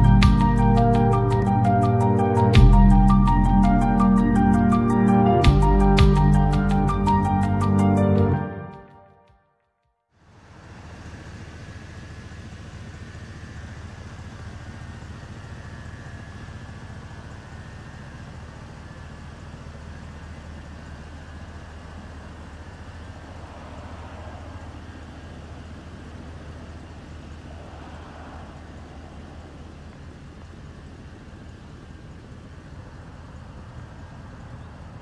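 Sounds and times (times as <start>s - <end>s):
truck engine idling: 0.0s - 8.6s, 10.2s - 35.0s.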